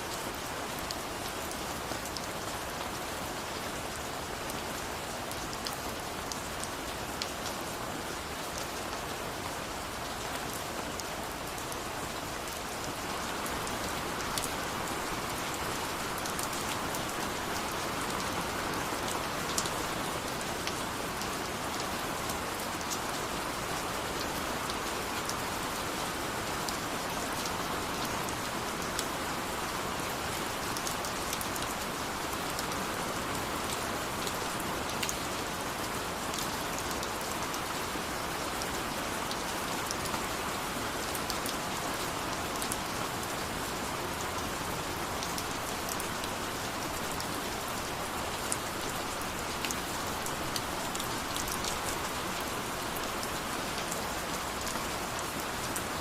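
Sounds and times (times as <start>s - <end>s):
steady rain: 0.0s - 56.0s
raindrops ticking on surface: 0.1s - 56.0s.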